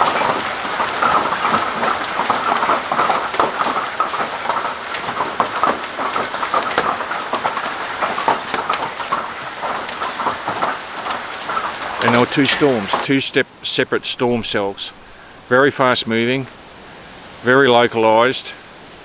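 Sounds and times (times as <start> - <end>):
hail and heavy rain pelting: 0.0 - 19.0.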